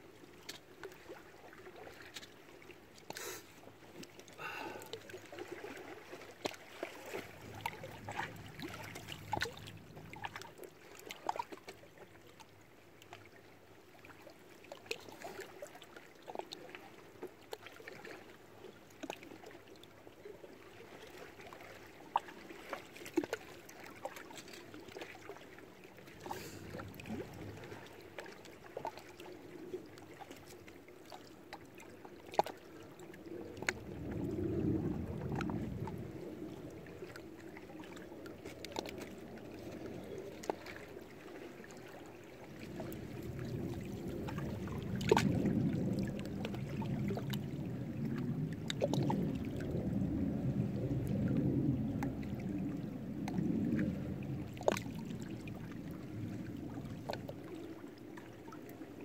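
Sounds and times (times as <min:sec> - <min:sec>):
low rush of water: 0:00.0 - 0:59.0.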